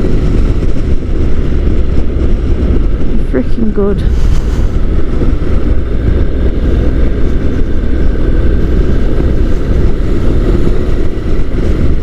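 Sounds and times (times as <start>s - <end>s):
motorcycle engine: 0.0s - 12.0s
wind rush: 0.0s - 12.0s.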